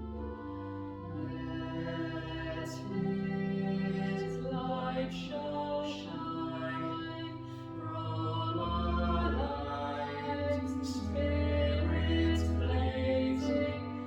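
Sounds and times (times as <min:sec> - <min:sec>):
sustained organ chords: 0:00.0 - 0:14.0
voices singing a hymn: 0:00.0 - 0:14.0.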